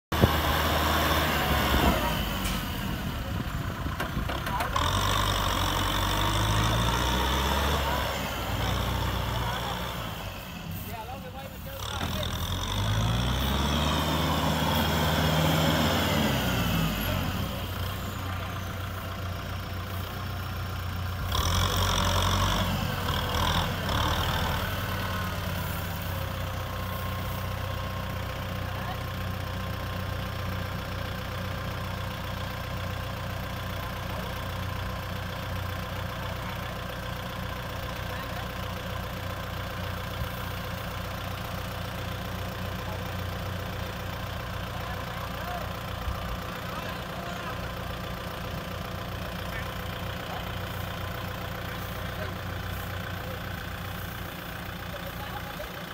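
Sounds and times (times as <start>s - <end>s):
tractor diesel engine revving: 0.1s - 55.9s.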